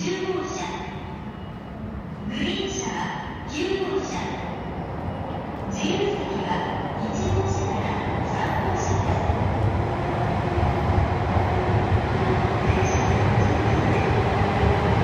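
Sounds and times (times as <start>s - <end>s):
train rumbling past platform: 0.0s - 15.0s.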